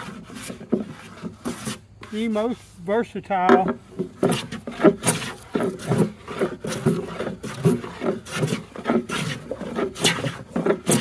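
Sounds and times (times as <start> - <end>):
hand plane shaving wood: 0.0 - 2.9, 3.6 - 11.0.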